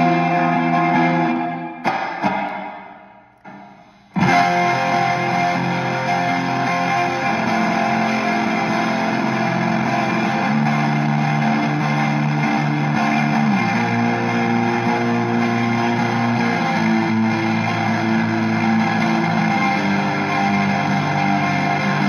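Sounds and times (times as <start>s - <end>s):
distorted electric guitar chords: 0.0s - 22.0s.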